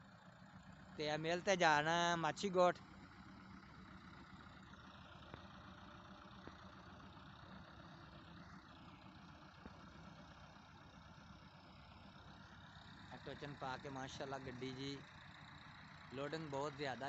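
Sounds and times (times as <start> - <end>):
tractor diesel engines running: 0.0 - 17.0.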